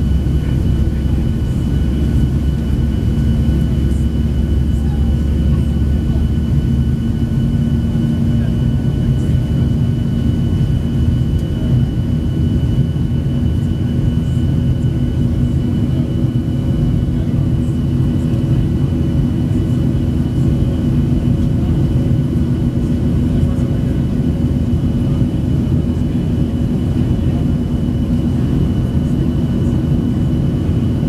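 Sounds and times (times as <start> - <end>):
airplane cabin engine rumble: 0.0 - 31.0.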